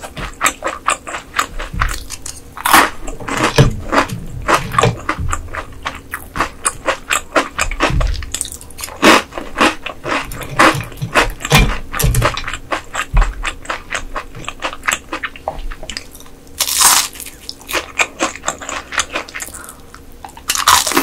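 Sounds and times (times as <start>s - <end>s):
chewing crunchy fried food: 0.0s - 21.0s.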